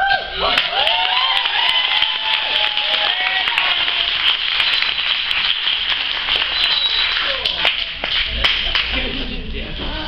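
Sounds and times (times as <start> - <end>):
people cheering: 0.0 - 8.4
audience applauding: 0.5 - 9.0.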